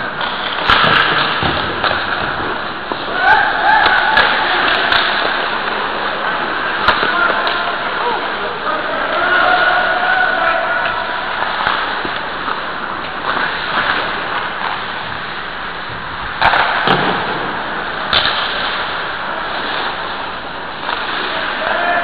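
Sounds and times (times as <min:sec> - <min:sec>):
skates scraping ice: 0:00.0 - 0:22.0.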